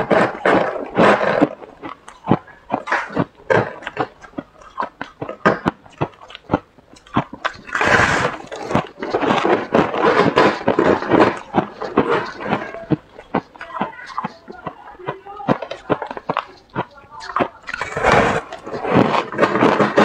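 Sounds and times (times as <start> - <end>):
chewing crunchy frost: 0.0 - 20.0.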